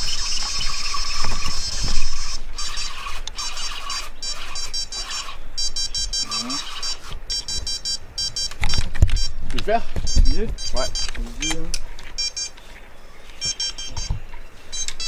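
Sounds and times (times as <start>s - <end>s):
electronic bite alarm beeping: 0.0s - 9.4s, 10.0s - 12.6s, 13.4s - 15.0s.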